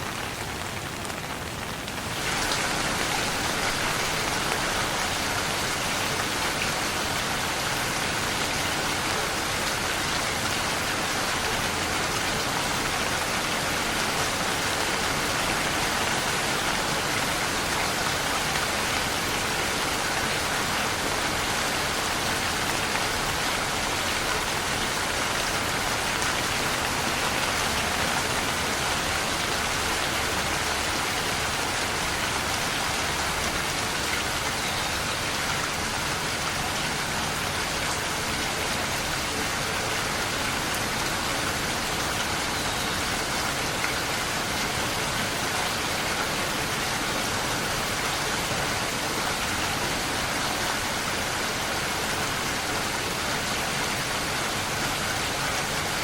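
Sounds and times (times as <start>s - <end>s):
rain pattering on surfaces: 0.0s - 56.0s.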